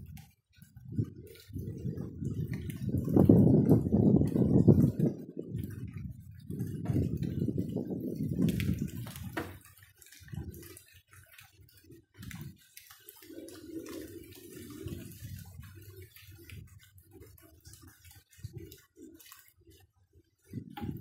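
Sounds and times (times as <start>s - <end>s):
rain dripping and splashing: 0.0s - 21.0s.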